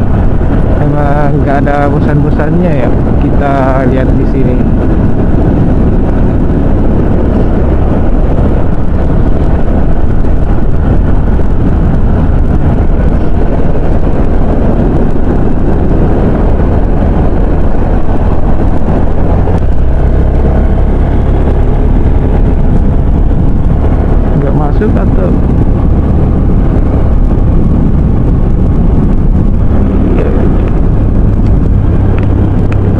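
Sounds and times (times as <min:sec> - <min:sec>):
motorcycle engine rumble: 0:00.0 - 0:32.9
tyres on road: 0:00.0 - 0:32.9
wind noise: 0:00.0 - 0:32.9.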